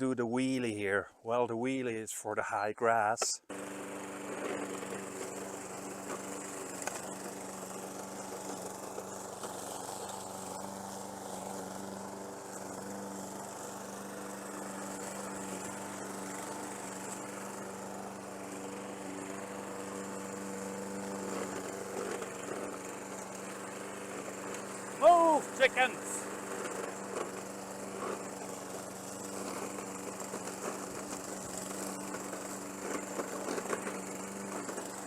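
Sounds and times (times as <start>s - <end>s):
lawn mower engine running: 3.4s - 35.0s.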